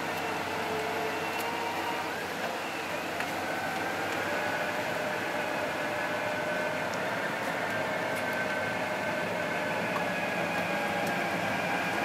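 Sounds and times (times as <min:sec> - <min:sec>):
bulldozer diesel engine running: 0:00.0 - 0:12.0
bulldozer tracks moving: 0:00.0 - 0:12.0.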